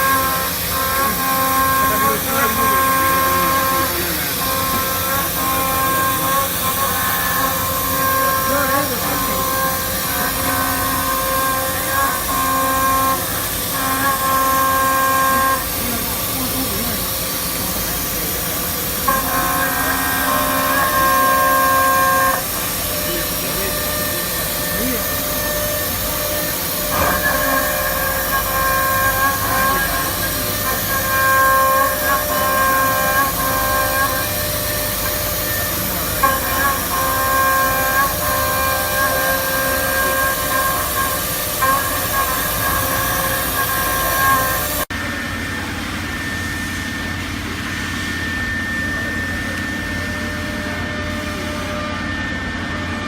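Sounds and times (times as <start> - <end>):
milling machine cutting whine: 0.0 - 53.0.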